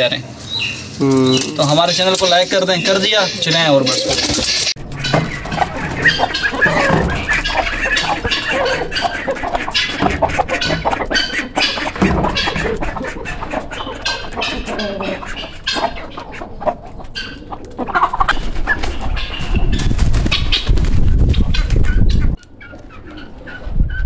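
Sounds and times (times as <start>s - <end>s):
turkeys and fowl clucking: 0.4s - 20.7s, 21.3s - 24.0s.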